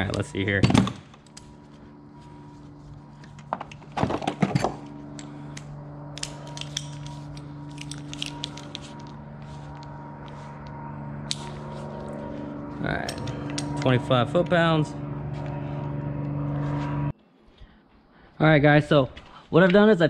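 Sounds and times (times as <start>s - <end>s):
steady low hum: 0.0s - 19.5s.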